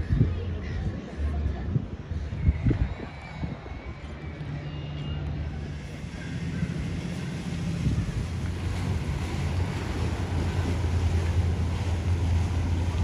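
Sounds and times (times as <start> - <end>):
motorboat engine humming: 0.0 - 13.0
wind on microphone: 0.0 - 13.0
water wash: 1.0 - 13.0.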